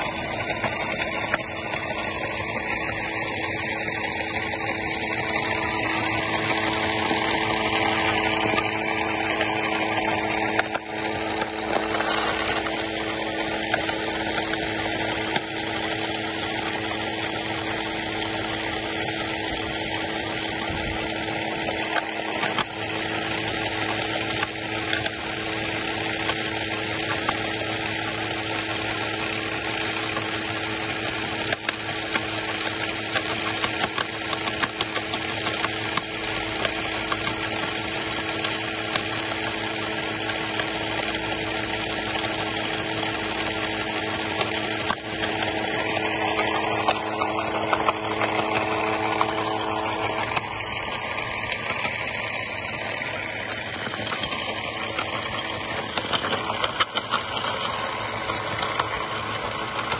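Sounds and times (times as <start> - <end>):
small electric motors whirring: 0.0 - 59.9.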